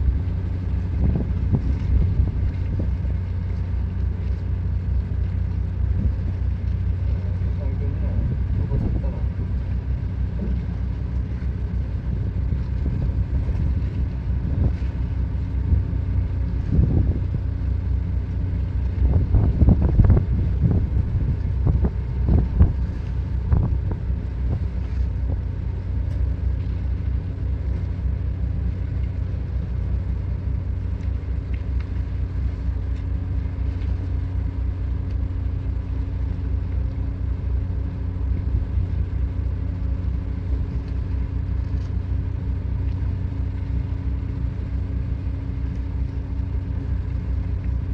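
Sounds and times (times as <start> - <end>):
ship engine humming: 0.0 - 47.9.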